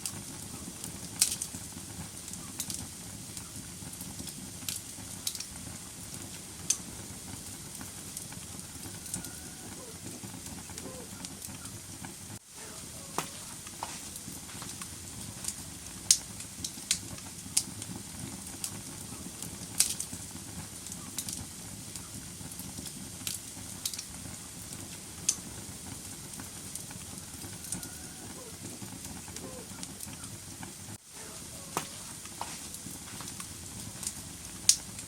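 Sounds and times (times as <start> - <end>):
fire flames rustling: 0.0 - 35.0
logs crackling and popping: 0.0 - 35.0.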